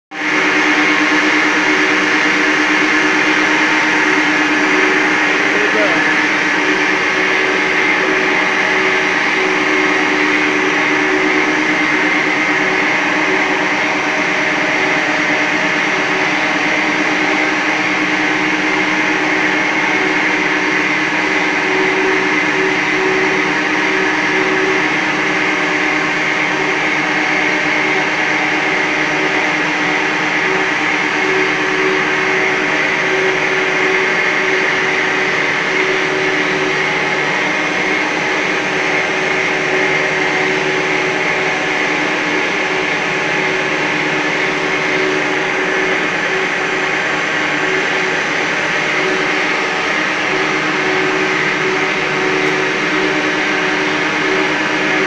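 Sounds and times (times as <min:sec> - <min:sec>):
high machine whine: 0:00.1 - 0:55.0
machine motors droning: 0:00.2 - 0:55.0.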